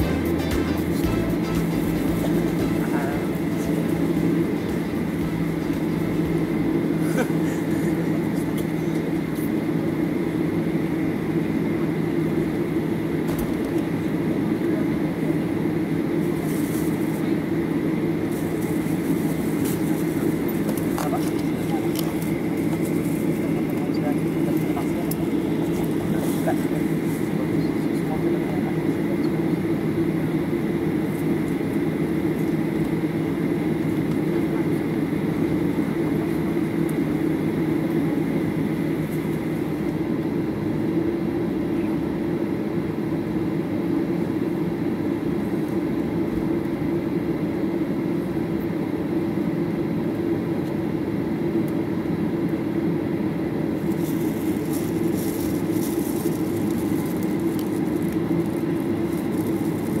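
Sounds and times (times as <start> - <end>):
air-conditioning hum: 0.0 - 60.0
jet engines idling hum: 0.0 - 60.0.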